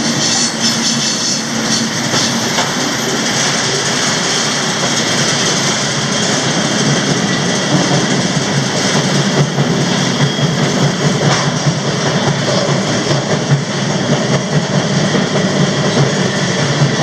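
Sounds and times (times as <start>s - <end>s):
freight cars rattling: 0.0s - 17.0s
steel wheels on rails: 0.0s - 17.0s.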